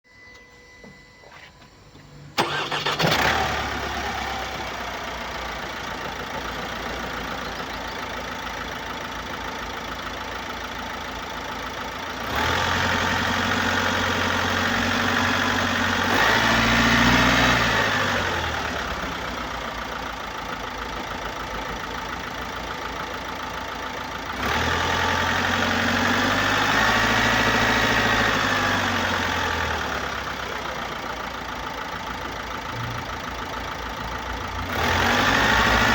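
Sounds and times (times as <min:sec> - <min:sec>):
diesel engine starting and revving: 0:02.3 - 0:35.9.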